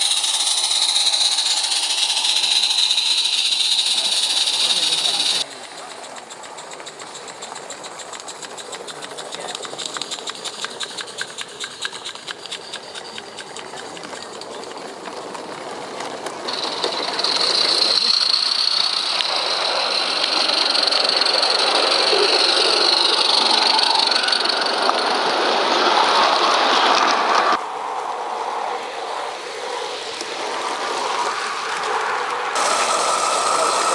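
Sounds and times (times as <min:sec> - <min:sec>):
steam hissing: 0:00.0 - 0:12.9, 0:16.4 - 0:27.4, 0:29.2 - 0:33.9
steam locomotive chuffing: 0:00.0 - 0:27.6, 0:32.5 - 0:33.9.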